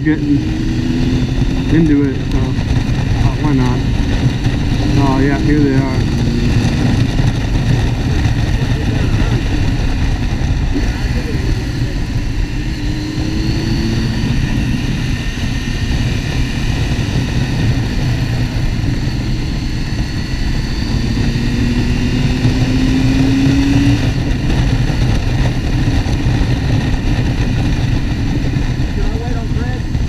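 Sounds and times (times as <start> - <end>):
motorcycle engine running: 0.0 - 30.0
wind rush: 0.0 - 30.0.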